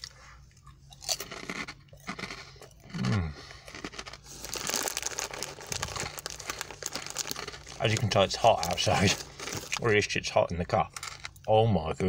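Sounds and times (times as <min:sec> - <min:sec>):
plastic snack packet crinkling: 0:01.0 - 0:11.4.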